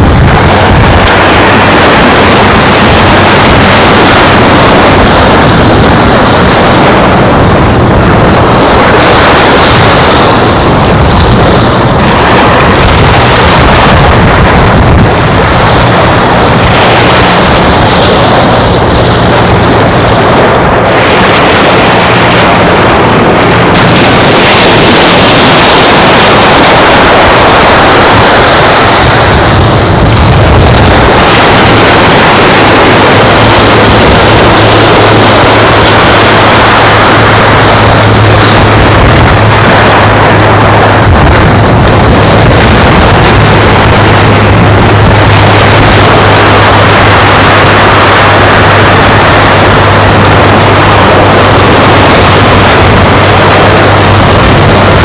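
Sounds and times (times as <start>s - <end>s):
waves on beach: 0.0s - 55.0s
wind blowing across microphone: 0.0s - 55.0s.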